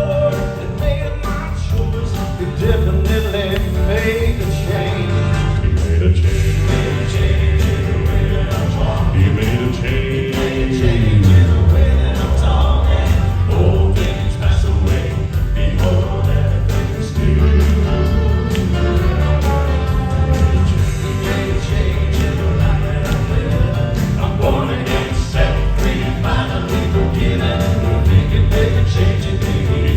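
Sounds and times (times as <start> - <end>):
band accompaniment with steady beat: 0.0 - 29.9
male vocal quartet singing: 0.0 - 29.9.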